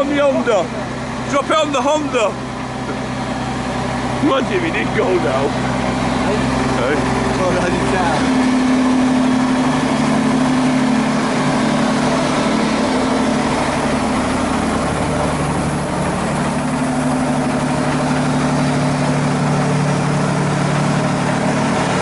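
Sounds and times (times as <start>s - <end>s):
crane engine running: 0.0s - 22.0s.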